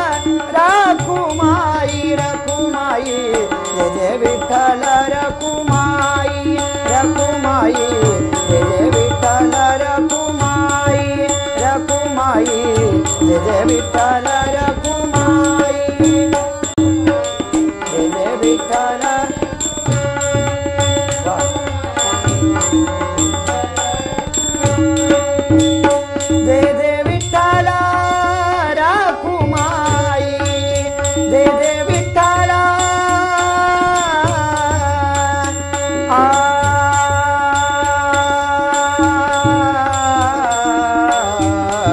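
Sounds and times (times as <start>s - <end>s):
person singing: 0.0s - 16.6s, 17.6s - 24.4s, 26.4s - 41.9s
harmonium melody: 0.0s - 41.9s
tabla rhythm: 0.0s - 41.9s.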